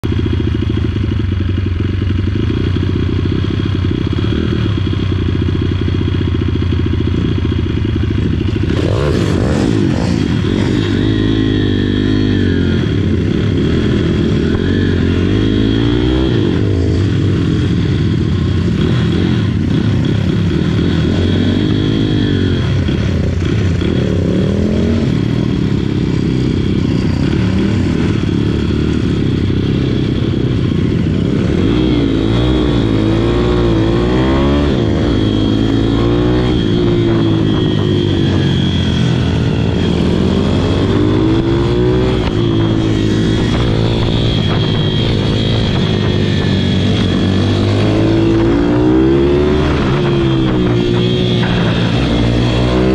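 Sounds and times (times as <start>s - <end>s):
motorbike engine idling and revving: 0.0s - 52.9s.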